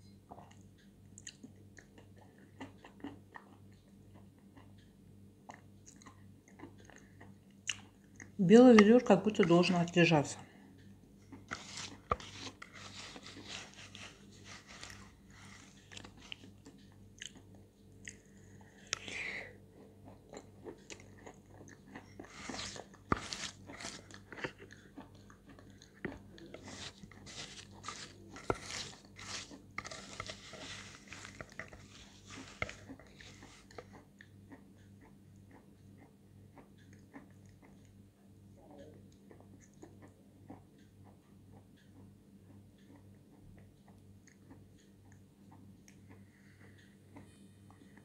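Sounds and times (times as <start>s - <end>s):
chewing paste: 0.3s - 38.0s, 39.1s - 47.3s.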